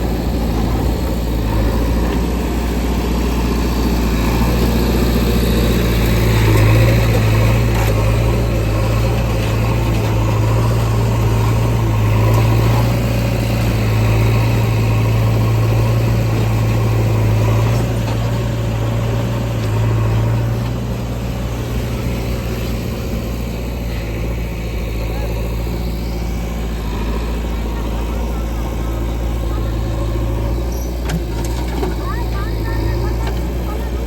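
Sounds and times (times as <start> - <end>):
diesel engine low hum: 0.0 - 34.0.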